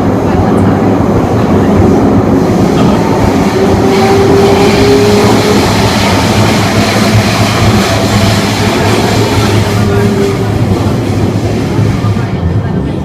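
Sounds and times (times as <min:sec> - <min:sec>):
metro train wheels and motors rumbling: 0:00.0 - 0:13.0.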